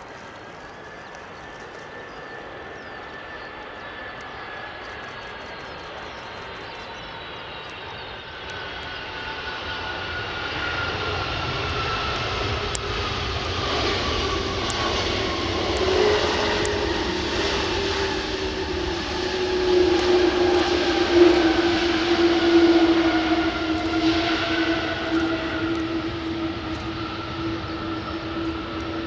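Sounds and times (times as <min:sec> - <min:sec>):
jet engine roar: 0:00.0 - 0:29.0
jet whine gliding down: 0:00.0 - 0:29.0.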